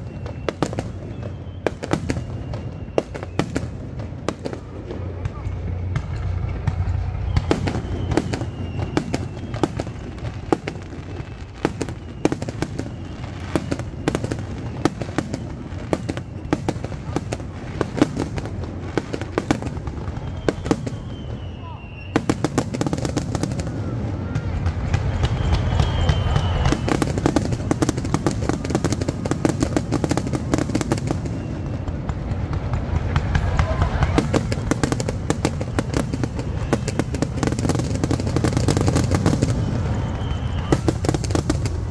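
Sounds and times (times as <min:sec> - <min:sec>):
fireworks bangs and cracks: 0:00.0 - 0:41.9.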